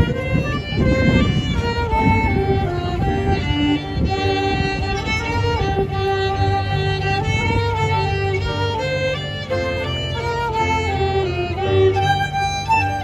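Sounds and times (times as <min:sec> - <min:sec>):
fiddle melody: 0:00.0 - 0:13.0
flute: 0:00.0 - 0:13.0
keyboard chords: 0:00.0 - 0:13.0.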